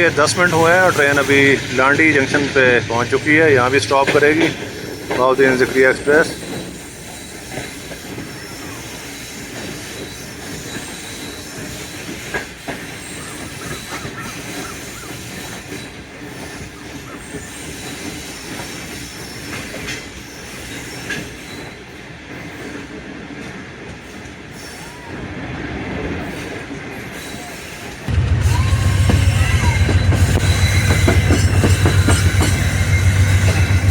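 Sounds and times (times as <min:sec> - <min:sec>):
train wheels squealing: 0:00.0 - 0:25.4, 0:26.1 - 0:33.9
passenger train rolling: 0:00.0 - 0:33.9.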